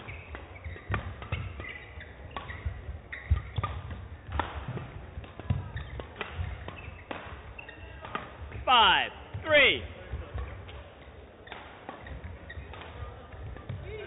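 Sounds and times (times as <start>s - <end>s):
rackets striking shuttlecock: 0.0s - 8.7s, 10.1s - 14.0s
shoes squeaking on court floor: 0.0s - 14.0s.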